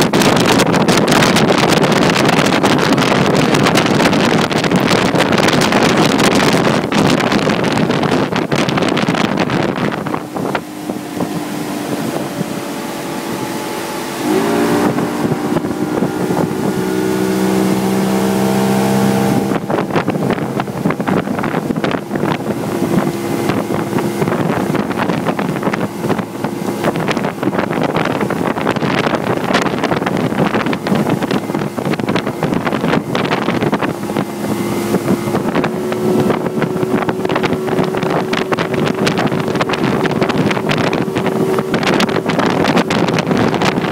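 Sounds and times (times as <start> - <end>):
outboard motor running: 0.0 - 43.9
rushing water: 0.0 - 43.9
wind on microphone: 0.0 - 43.9.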